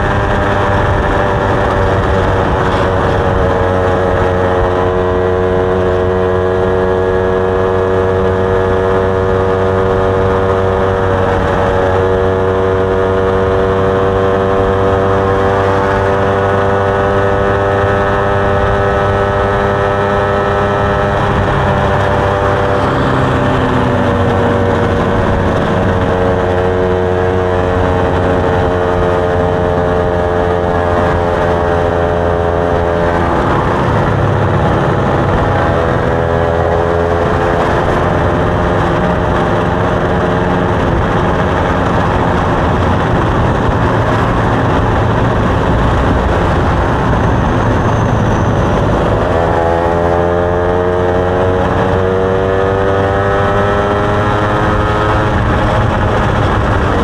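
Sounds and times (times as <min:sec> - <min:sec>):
motorcycle engine accelerating: 0:00.0 - 0:57.0
rushing wind noise: 0:00.0 - 0:57.0.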